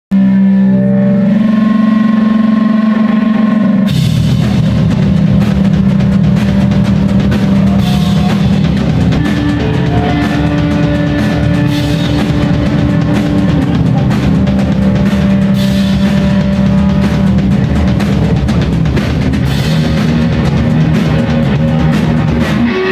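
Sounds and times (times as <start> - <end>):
heavy rock band playing: 0.2 - 22.9.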